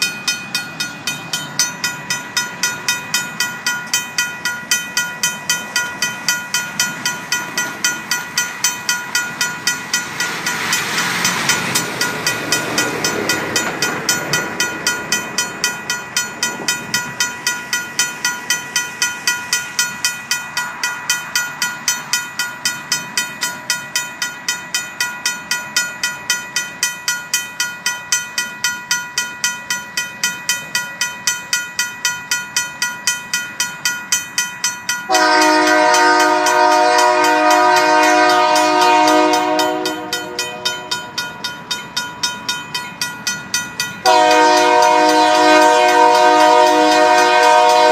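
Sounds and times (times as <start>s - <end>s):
mechanical crossing bell ringing: 0.0s - 47.9s.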